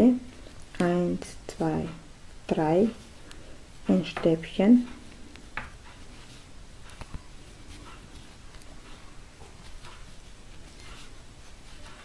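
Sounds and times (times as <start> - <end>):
low steady hum: 0.0 - 12.0
rustling of yarn: 0.2 - 12.0.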